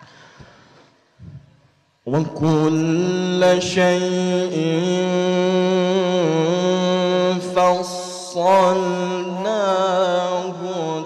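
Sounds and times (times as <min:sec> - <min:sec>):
man reciting melismatic chant: 0:01.4 - 0:11.0.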